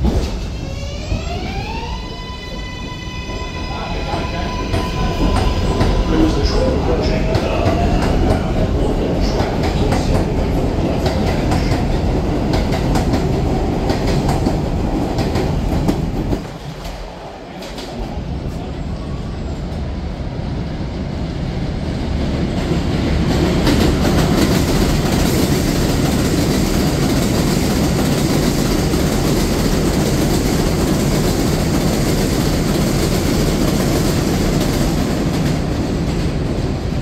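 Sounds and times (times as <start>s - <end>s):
subway train wheel and rail rumble: 0.0s - 37.0s.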